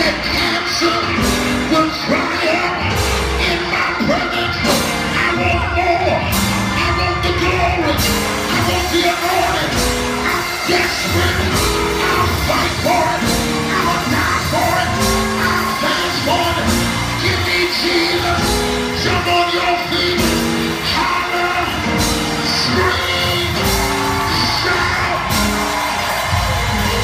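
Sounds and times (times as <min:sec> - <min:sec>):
person singing: 0:00.0 - 0:25.6
congregation yelling: 0:00.0 - 0:27.0
drum and cymbal beat: 0:00.0 - 0:27.0
keyboard chords: 0:00.0 - 0:27.0.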